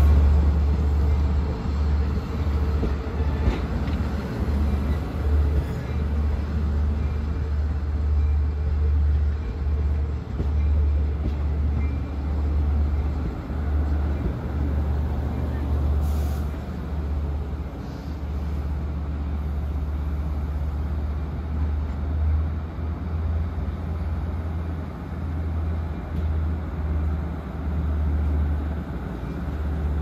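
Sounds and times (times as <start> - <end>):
diesel train low drone: 0.0 - 30.0
rail and wheel noise: 0.0 - 30.0.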